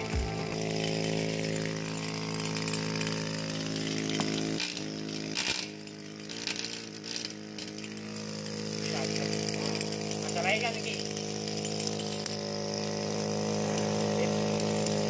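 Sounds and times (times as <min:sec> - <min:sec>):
pneumatic chipping hammer buzzing: 0:00.0 - 0:15.0.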